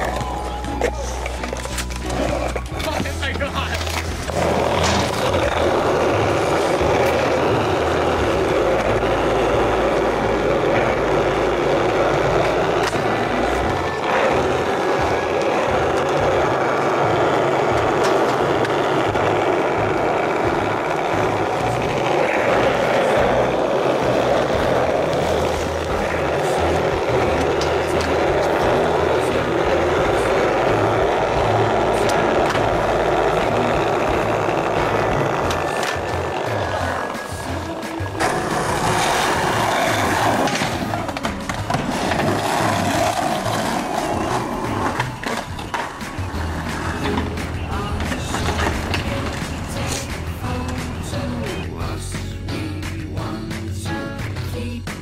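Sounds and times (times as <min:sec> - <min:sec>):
skateboard wheels rolling on asphalt: 0:00.0 - 0:54.5
music playing: 0:00.0 - 0:55.0.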